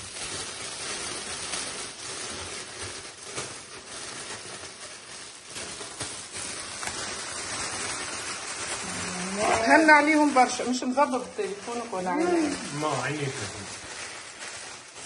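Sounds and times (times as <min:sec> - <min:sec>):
cellophane wrap crinkling: 0:00.0 - 0:15.0.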